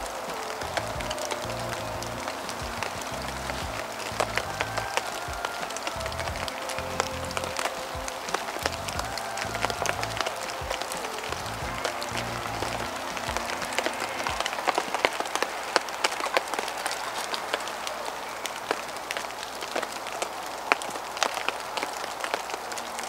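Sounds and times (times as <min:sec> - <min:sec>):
background music: 0:00.0 - 0:23.0
raindrops tapping close by: 0:00.0 - 0:23.0
steady rain falling: 0:00.0 - 0:23.0.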